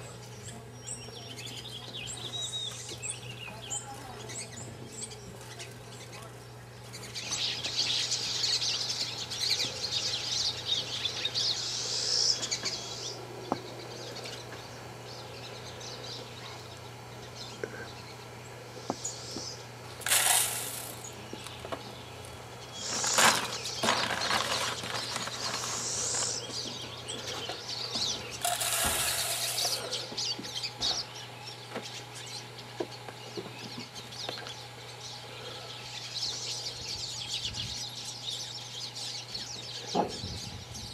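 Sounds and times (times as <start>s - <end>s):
birds chirping and calling: 0.0s - 40.9s
steady low hum: 0.0s - 40.9s.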